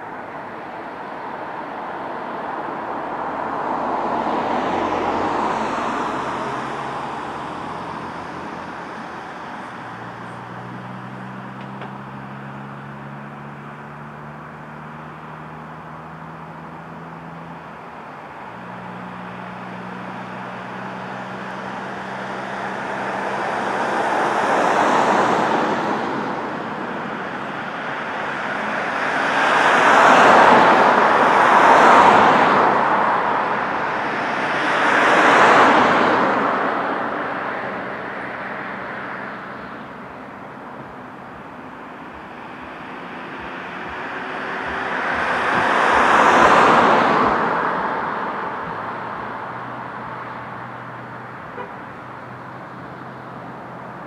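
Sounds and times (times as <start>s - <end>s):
cars passing close by: 0.0s - 54.0s.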